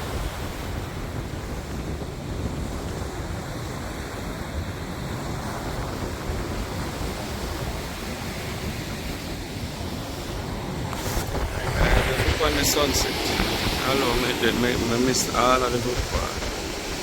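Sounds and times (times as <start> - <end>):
sea waves rushing: 0.0 - 17.0
wind buffeting microphone: 0.0 - 17.0.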